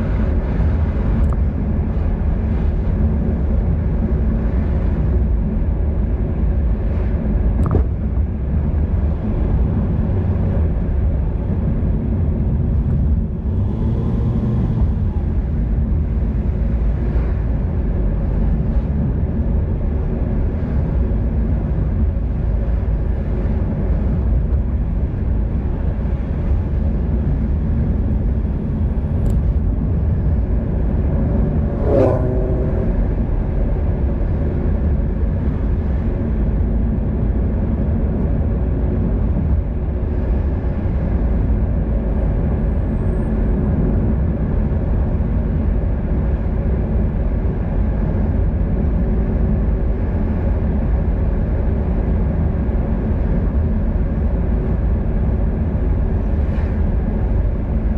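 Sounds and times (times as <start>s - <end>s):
wind and road rumble: 0.0s - 57.9s.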